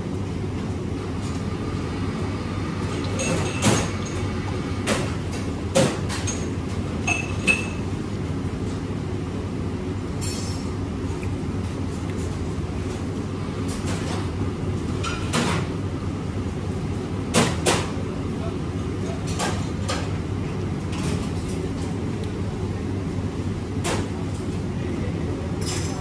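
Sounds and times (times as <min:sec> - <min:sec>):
restaurant low rumble: 0:00.0 - 0:26.0.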